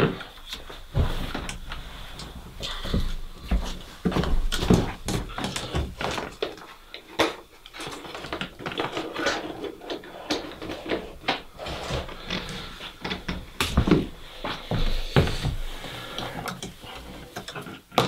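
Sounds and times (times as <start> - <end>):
cables and plug connectors handled: 0.0 - 18.0.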